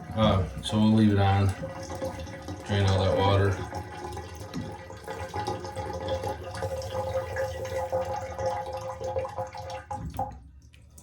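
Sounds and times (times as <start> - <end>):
water rushing from shower valve: 0.0 - 10.4.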